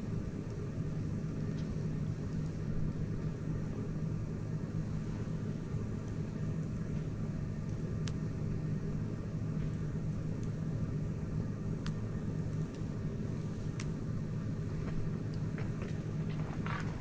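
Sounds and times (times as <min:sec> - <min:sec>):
campfire crackling pops: 0:00.0 - 0:17.0
low fire rumble: 0:00.0 - 0:17.0.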